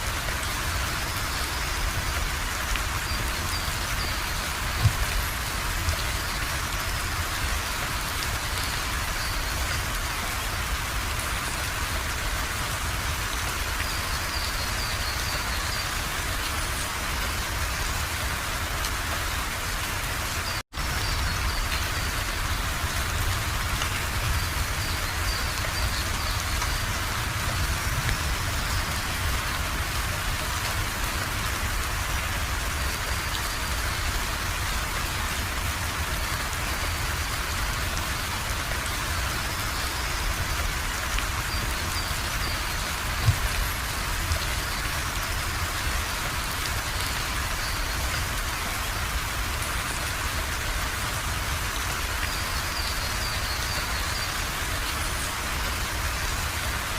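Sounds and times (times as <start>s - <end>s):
rain striking surfaces: 0.0s - 56.9s.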